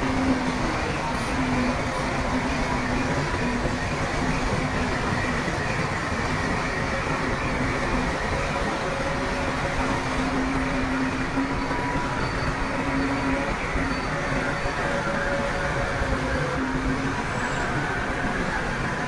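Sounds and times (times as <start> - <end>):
heavy diesel machinery engine drone: 0.0 - 19.0.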